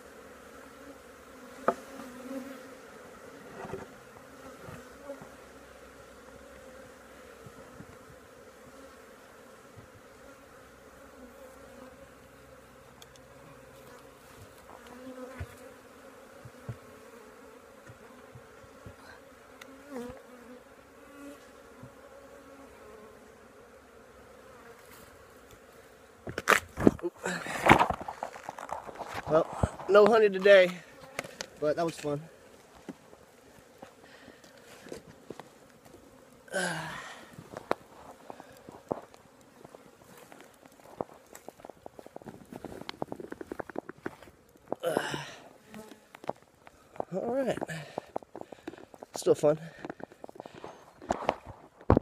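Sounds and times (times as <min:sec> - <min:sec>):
bees buzzing: 0:00.0 - 0:52.0.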